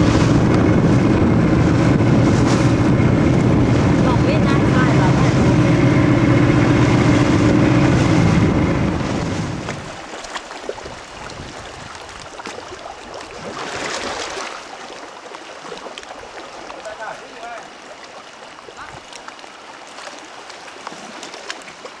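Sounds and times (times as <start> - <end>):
boat engine running: 0.0 - 22.0
water wash: 0.0 - 22.0
wind: 0.0 - 22.0.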